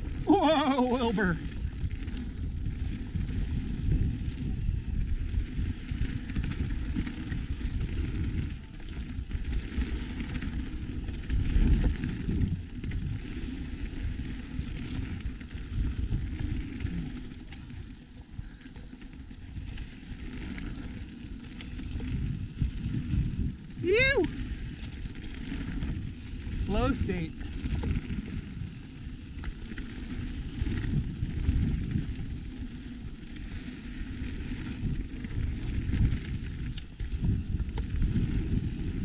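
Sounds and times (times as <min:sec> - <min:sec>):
bike rattling over bumps: 0:00.0 - 0:39.0
bike tyres on dirt and leaves: 0:00.0 - 0:39.0.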